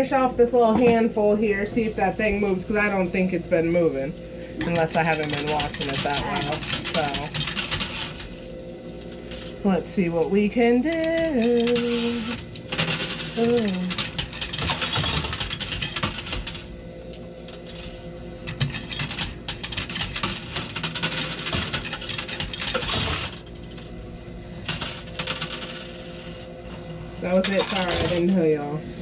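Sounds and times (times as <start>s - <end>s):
coins clinking in arcade machine: 2.4s - 24.0s, 24.6s - 28.3s.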